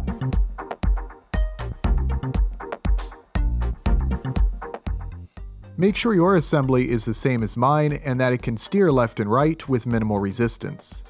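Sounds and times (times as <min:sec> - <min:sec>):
electronic music with kick drum and bass: 0:00.0 - 0:11.0.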